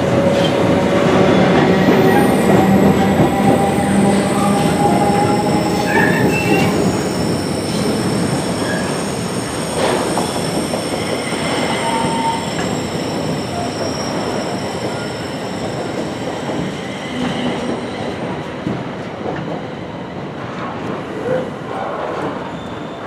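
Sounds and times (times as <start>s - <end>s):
steel wheels rumbling on rail: 0.0s - 23.0s
train wheel squeals: 1.3s - 18.2s, 21.2s - 23.0s.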